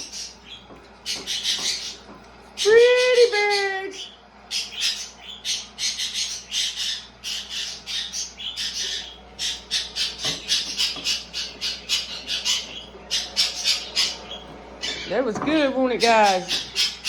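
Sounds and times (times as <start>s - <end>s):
pet birds squawking: 0.0s - 17.0s.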